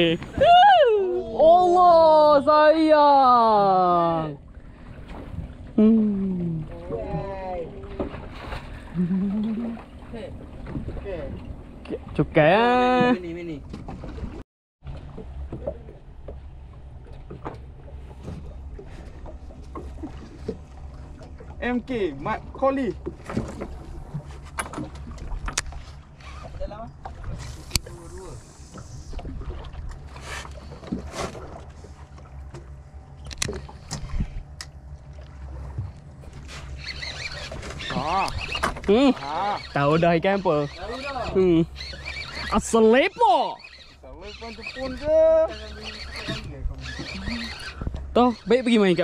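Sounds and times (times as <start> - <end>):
boat engine rumbling: 0.0 - 49.0.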